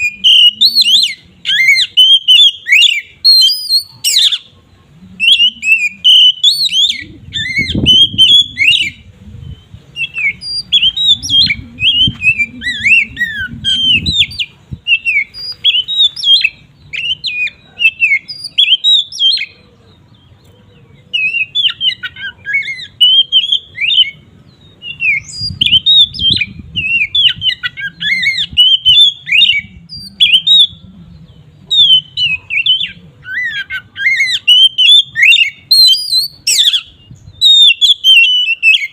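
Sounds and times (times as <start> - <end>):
magpie-robin singing whistles: 0.0 - 4.5, 5.2 - 19.6, 21.1 - 30.8, 31.6 - 38.9.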